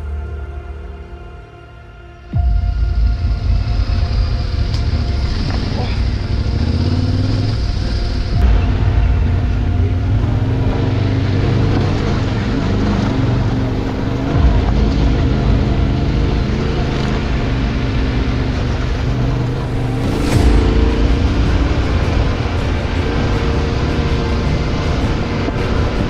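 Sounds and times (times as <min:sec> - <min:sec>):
motorcycle engine running: 0:02.4 - 0:26.0.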